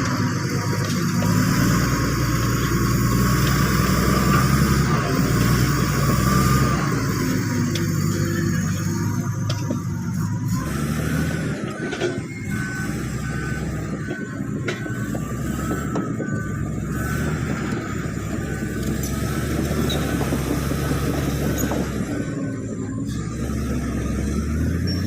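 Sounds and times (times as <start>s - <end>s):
bulldozer diesel engine running: 0.0s - 25.0s
reversing alarm beeping: 0.0s - 25.0s.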